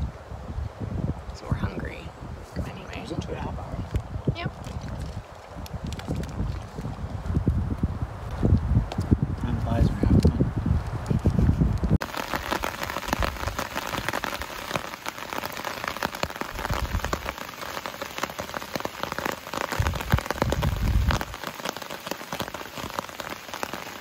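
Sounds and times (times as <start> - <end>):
low wind rumbles: 0.0 - 23.2
rain patter: 0.0 - 24.0.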